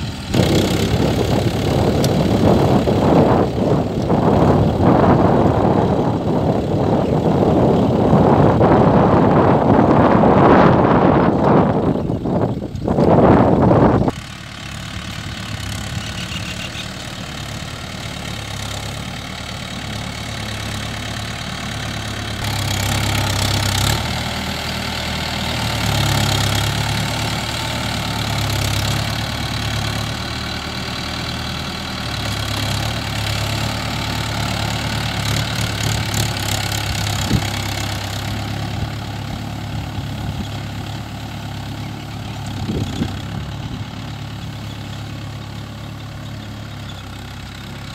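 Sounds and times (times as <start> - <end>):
cultivator pulled through soil: 0.0 - 47.9
tractor diesel engine running: 0.0 - 47.9.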